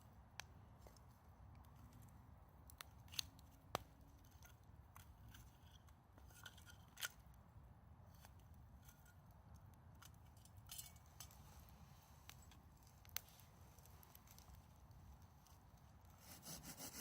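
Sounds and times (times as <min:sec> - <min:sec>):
campfire crackling: 0:00.1 - 0:06.2, 0:06.8 - 0:17.0.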